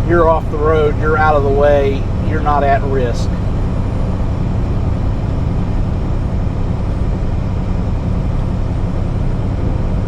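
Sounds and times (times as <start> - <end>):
diesel truck engine rumble: 0.0 - 10.0.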